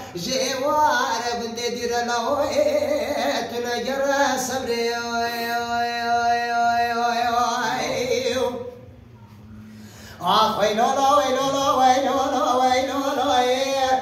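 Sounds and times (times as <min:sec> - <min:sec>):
man singing unaccompanied: 0:00.0 - 0:08.8, 0:10.2 - 0:14.0.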